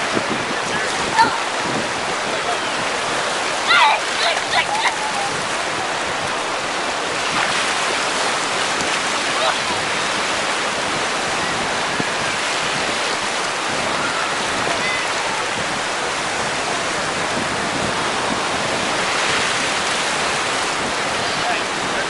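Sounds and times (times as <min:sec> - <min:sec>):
ocean surf washing in: 0:00.0 - 0:22.0
small waves breaking: 0:00.0 - 0:22.0.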